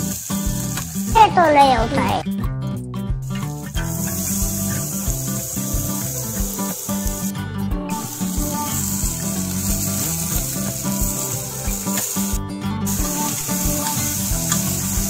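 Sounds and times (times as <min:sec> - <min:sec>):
vegetables sizzling in pressure cooker: 0:00.0 - 0:01.5, 0:03.2 - 0:07.3, 0:07.9 - 0:15.0
background music with steady beat: 0:00.0 - 0:15.0.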